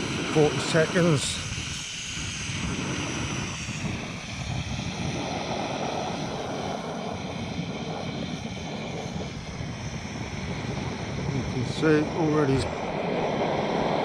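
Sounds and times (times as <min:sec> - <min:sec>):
gas burner roaring: 0:00.0 - 0:14.0.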